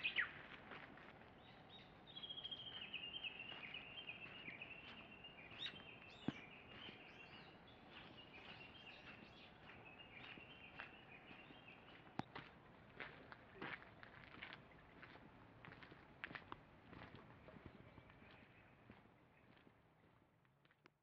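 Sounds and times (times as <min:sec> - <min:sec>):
faint birdsong chirping: 0:00.0 - 0:15.3, 0:16.4 - 0:20.2.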